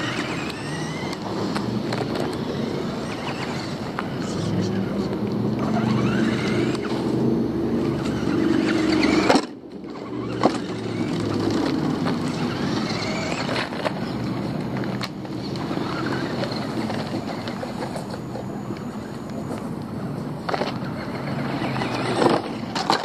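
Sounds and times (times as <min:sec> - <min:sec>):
rc car motor whining: 0:00.0 - 0:23.0
tyres rolling on pavement: 0:00.0 - 0:23.0.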